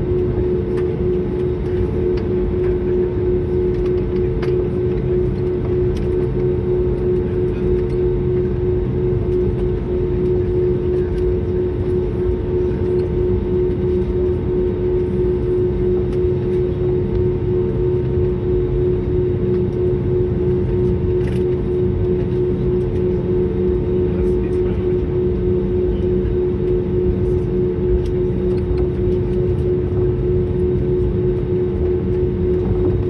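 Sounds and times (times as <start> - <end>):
airliner cabin engine rush: 0.0 - 33.0
constant droning tone: 0.0 - 33.0.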